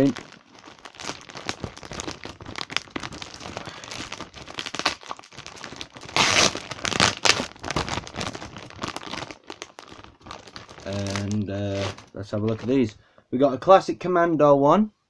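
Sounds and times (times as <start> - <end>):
plastic packaging crinkling and tearing: 0.0 - 13.0.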